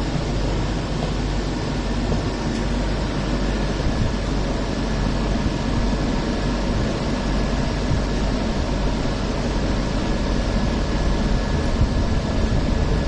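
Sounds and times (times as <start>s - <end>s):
tram rumble and hiss: 0.0s - 13.0s.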